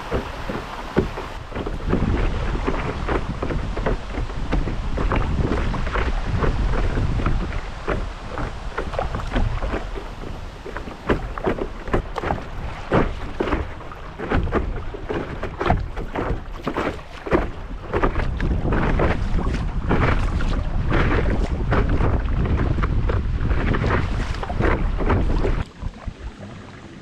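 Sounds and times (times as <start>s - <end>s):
water splashing and lapping: 0.0s - 27.0s
wind rumble on microphone: 0.0s - 27.0s.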